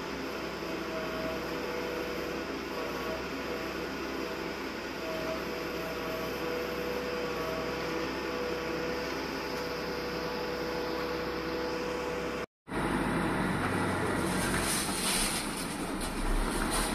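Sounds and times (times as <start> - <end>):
truck engine humming: 0.0 - 16.9.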